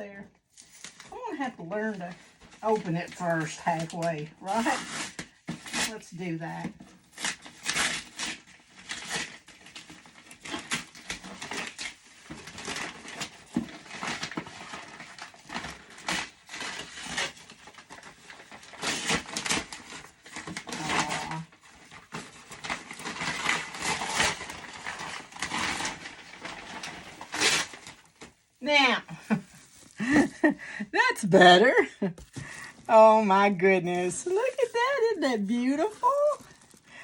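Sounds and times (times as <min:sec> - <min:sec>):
paper packaging tearing and rustling: 0:01.7 - 0:30.5, 0:31.1 - 0:37.0.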